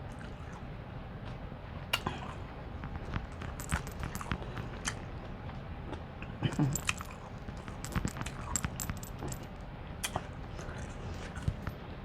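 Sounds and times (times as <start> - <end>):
mouth clicks and smacks: 0.0 - 11.8
wet chewing: 0.0 - 11.8.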